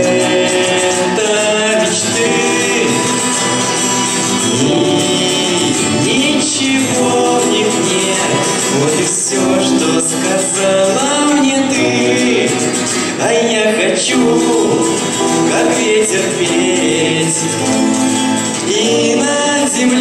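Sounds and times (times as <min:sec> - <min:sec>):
acoustic guitars: 0:00.0 - 0:20.0
young man singing into microphone: 0:00.0 - 0:20.0.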